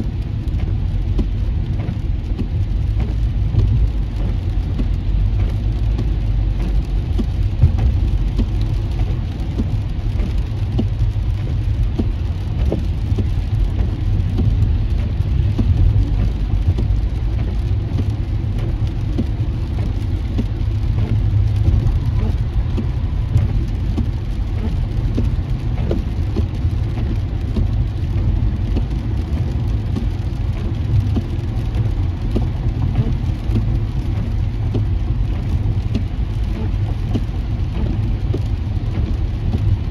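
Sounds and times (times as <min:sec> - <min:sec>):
rain ticking on windshield: 0:00.0 - 0:39.9
road and tyre rumble: 0:00.0 - 0:39.9.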